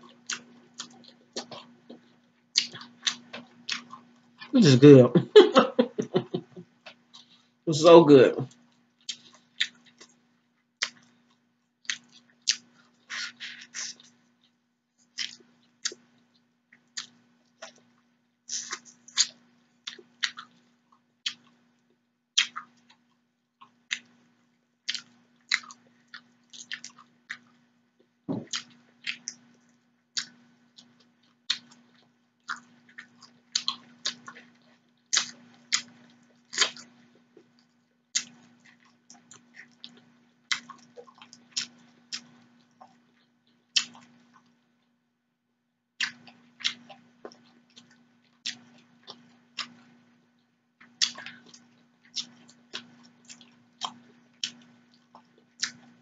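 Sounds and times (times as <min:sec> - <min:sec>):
faint steady hum: 0:00.0 - 0:56.0
wet chewing and lip-smacking: 0:00.1 - 0:04.5, 0:08.5 - 0:10.2, 0:10.8 - 0:44.7, 0:46.0 - 0:56.0.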